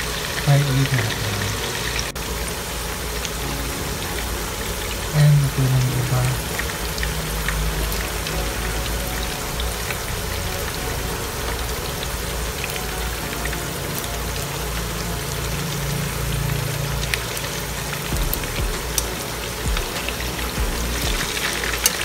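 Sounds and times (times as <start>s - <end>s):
chicken frying in oil: 0.0s - 22.0s.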